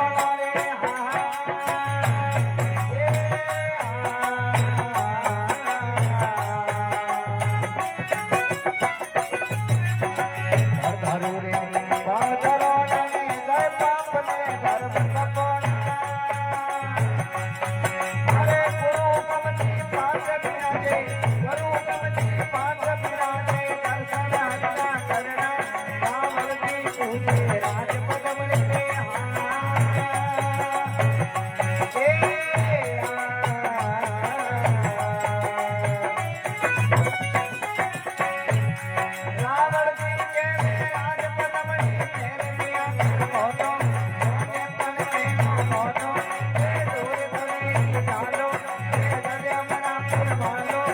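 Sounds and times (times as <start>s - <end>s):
jingling percussion: 0.0s - 50.9s.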